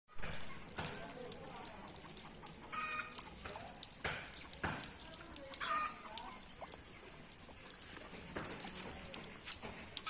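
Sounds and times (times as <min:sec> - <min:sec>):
water gushing from a well: 0:00.1 - 0:10.0.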